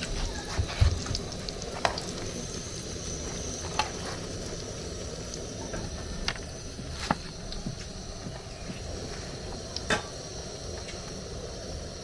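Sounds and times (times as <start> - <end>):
food frying in hot oil: 0.0 - 12.0.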